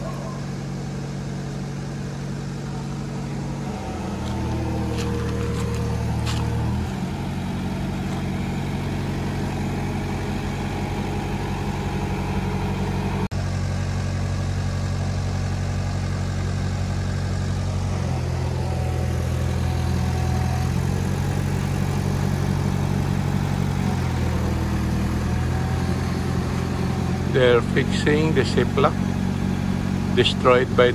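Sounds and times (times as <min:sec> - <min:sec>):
vehicle engine running: 0:00.0 - 0:30.9.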